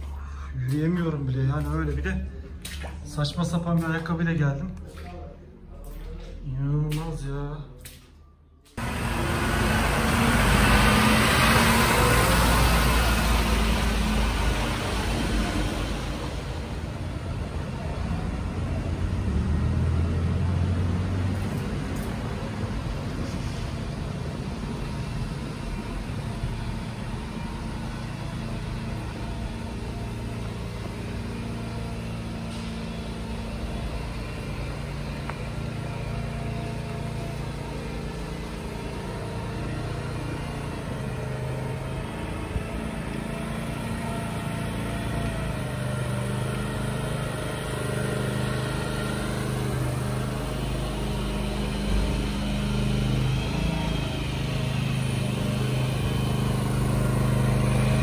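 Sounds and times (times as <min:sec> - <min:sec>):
engine running: 0:08.6 - 0:58.0.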